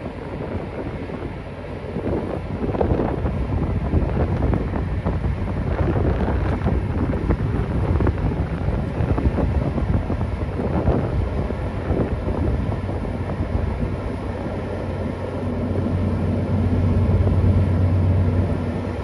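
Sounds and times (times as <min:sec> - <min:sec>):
dredger engine running: 0:00.0 - 0:19.0
wind buffeting microphone: 0:00.0 - 0:19.0.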